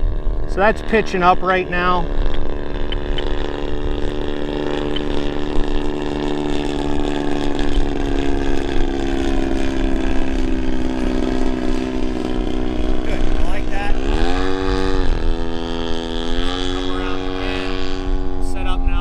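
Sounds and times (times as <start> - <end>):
model airplane engine drone: 0.0 - 19.0.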